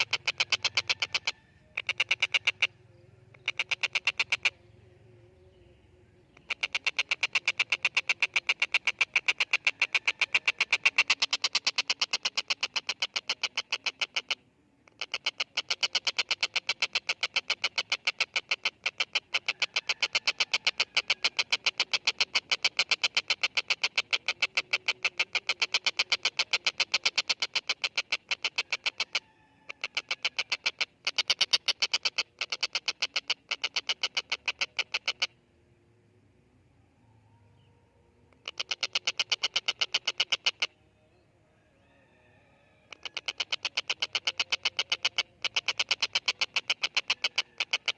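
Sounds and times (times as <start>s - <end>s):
kingfisher rattling call: 0.0s - 4.7s, 6.4s - 35.4s, 38.4s - 40.8s, 42.9s - 47.9s.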